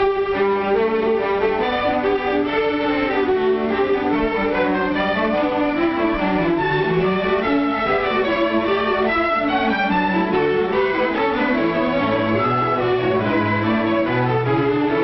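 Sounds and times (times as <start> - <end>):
orchestral strings playing held notes: 0.0 - 15.0.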